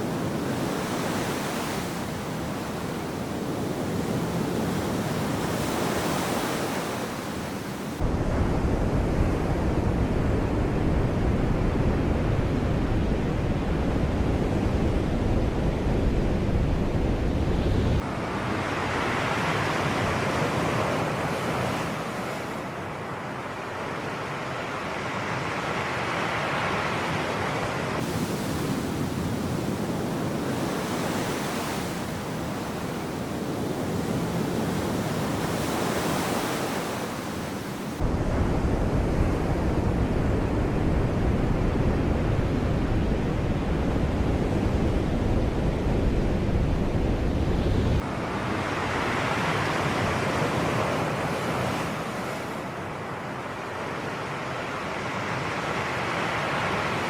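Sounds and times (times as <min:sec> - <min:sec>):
wind rumble on microphone: 0:00.0 - 0:23.0, 0:26.6 - 0:52.7.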